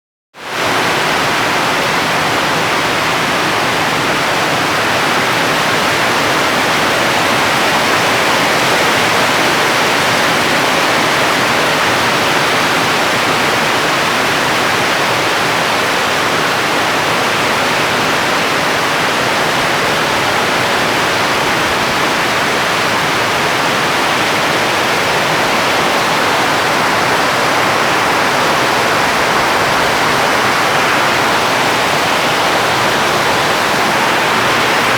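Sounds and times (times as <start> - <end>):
rain falling: 0.5 - 34.9.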